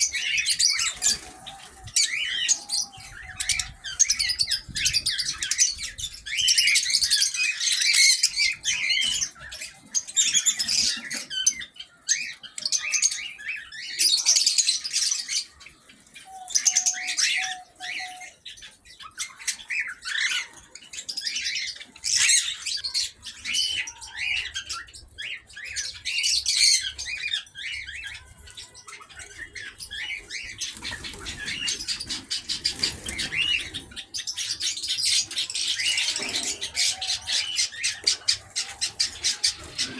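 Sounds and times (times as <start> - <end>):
pet birds chirping and chattering: 0.0 - 39.9.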